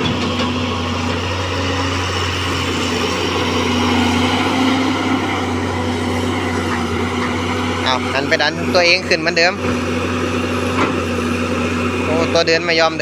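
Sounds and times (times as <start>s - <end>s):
excavator diesel engine straining: 0.0s - 13.0s.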